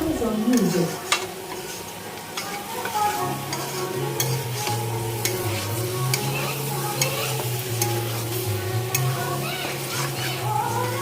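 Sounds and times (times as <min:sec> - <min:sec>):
light sizzle: 0:00.0 - 0:11.0
spoon scraping a frying pan: 0:00.4 - 0:11.0.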